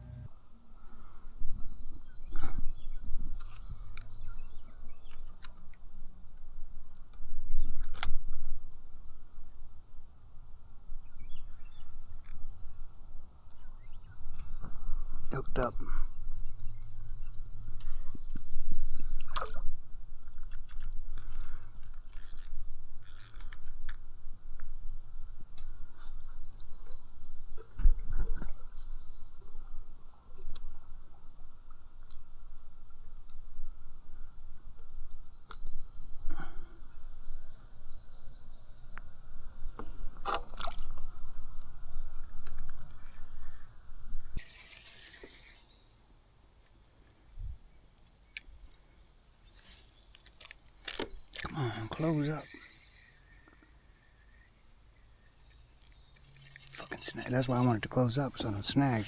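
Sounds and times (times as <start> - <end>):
insects calling: 0.0 - 59.0.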